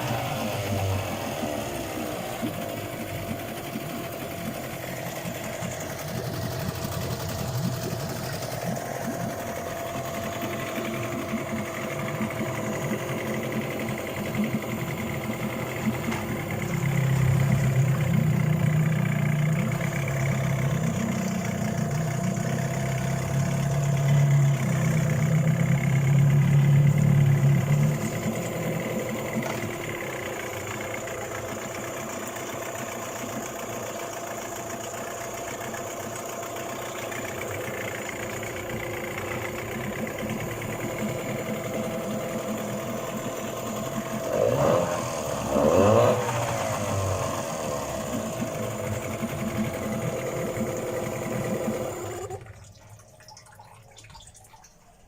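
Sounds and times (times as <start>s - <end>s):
outboard motor idling: 0.0s - 55.0s.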